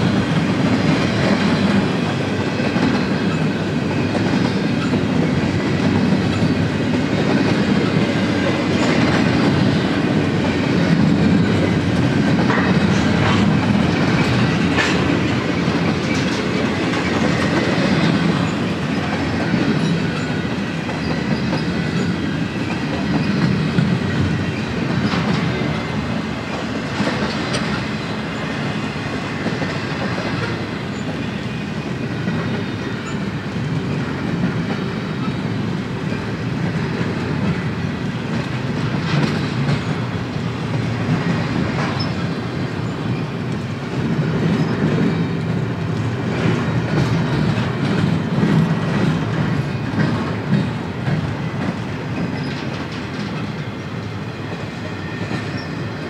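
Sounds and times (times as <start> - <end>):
train wheels rumbling over rail joints: 0.0 - 56.0.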